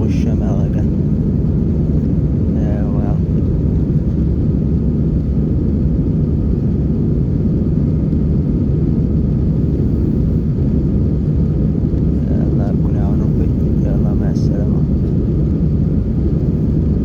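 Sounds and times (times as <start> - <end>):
airliner engine rumble in cabin: 0.0 - 17.0.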